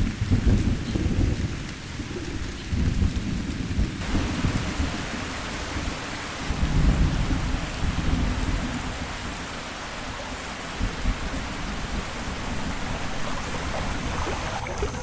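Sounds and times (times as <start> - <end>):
rain on foliage: 0.0 - 14.7
thunder rumble: 0.1 - 9.4, 10.6 - 15.0.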